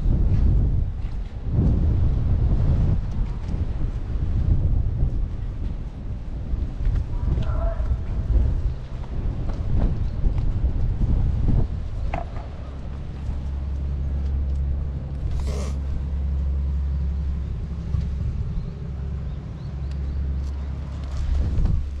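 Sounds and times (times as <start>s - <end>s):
engine idling hum: 0.1s - 22.0s.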